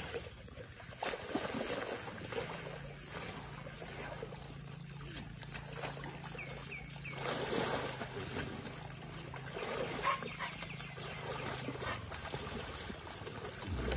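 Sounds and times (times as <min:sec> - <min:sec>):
elephant splashing in mud: 0:00.0 - 0:13.9.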